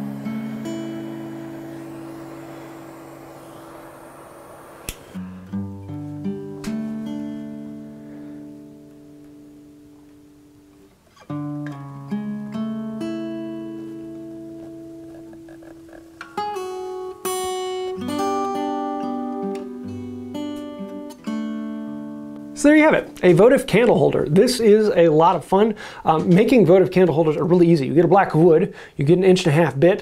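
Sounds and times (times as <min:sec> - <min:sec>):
acoustic guitar music: 0:00.0 - 0:28.4.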